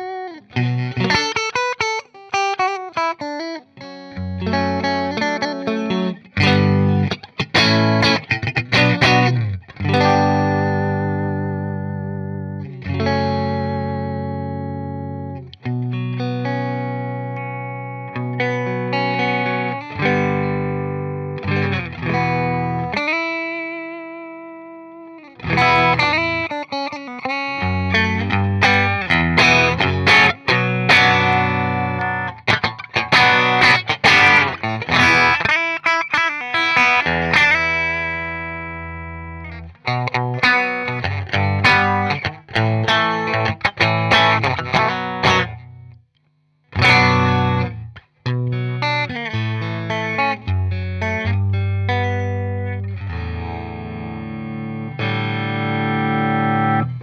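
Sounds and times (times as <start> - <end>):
electric guitar chords and picking: 0.0 - 46.0, 46.7 - 57.0.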